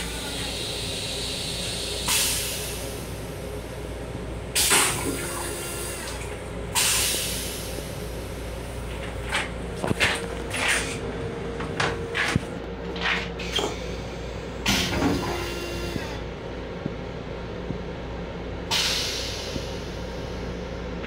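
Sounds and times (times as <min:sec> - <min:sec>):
moving train rumble: 0:00.0 - 0:21.0.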